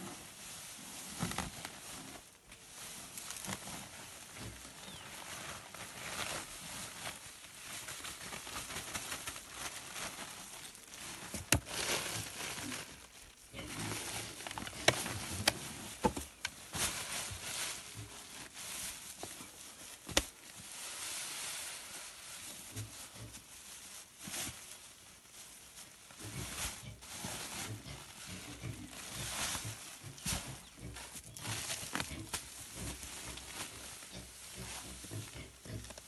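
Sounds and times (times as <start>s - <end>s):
plastic sacks rustling: 0.0s - 36.0s.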